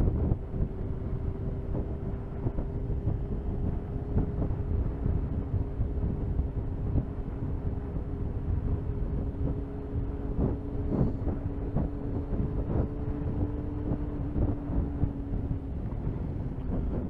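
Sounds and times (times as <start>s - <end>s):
motorcycle engine cruising: 0.0s - 17.0s
wind on microphone: 0.0s - 17.0s.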